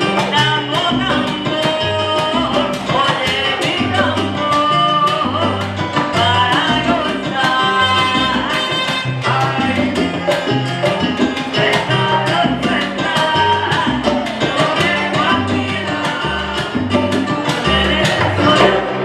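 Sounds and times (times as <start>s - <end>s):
salsa band playing: 0.0s - 19.0s.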